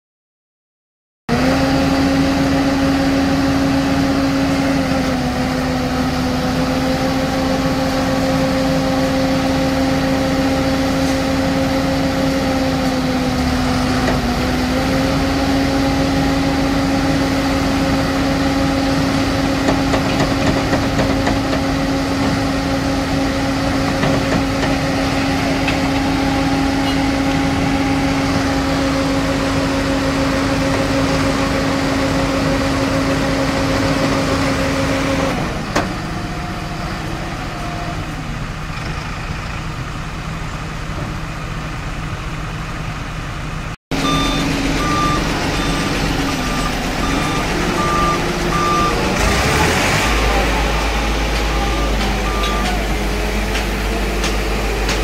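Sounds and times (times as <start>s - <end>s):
concrete mixer engine droning: 1.3s - 55.0s.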